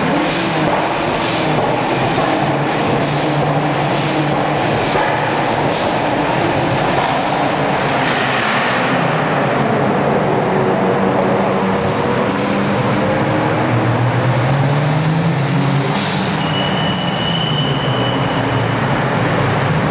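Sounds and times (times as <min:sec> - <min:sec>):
traffic rumbling in a tunnel: 0:00.0 - 0:19.9.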